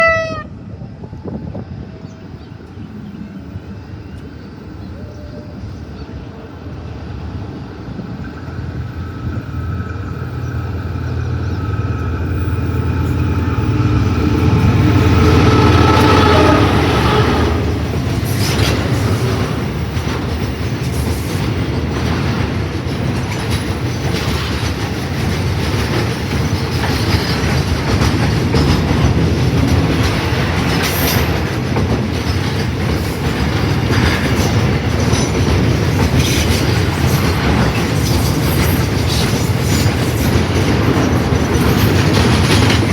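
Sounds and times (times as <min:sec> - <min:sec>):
train running on rails: 0:00.0 - 0:42.9
wheels clicking on rail joints: 0:08.0 - 0:42.9.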